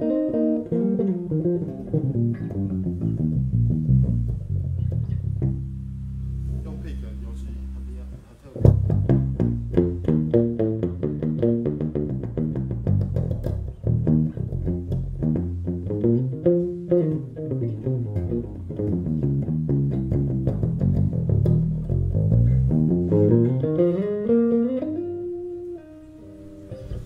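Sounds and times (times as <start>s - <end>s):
electric bass playing: 0.0s - 27.0s.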